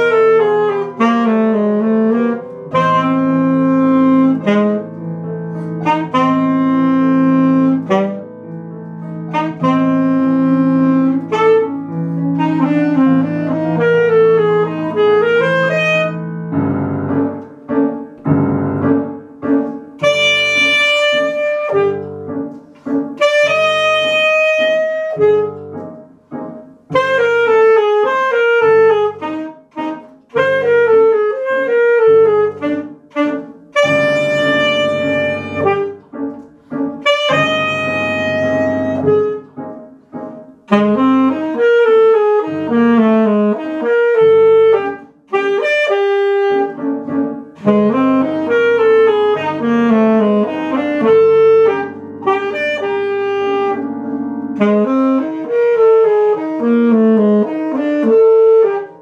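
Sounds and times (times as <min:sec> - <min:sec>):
alto saxophone melody: 0:00.0 - 0:59.0.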